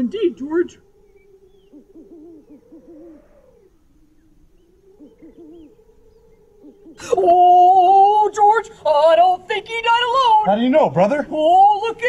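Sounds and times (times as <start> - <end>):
owl hooting: 0.0 - 10.6
faint droning tone: 0.0 - 12.0.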